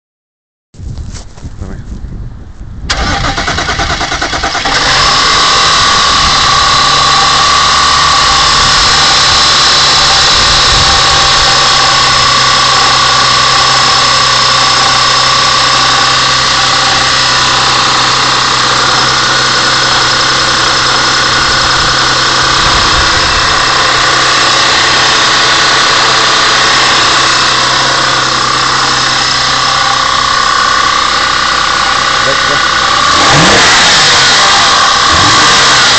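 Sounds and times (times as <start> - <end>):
car engine idling: 2.9 - 35.9.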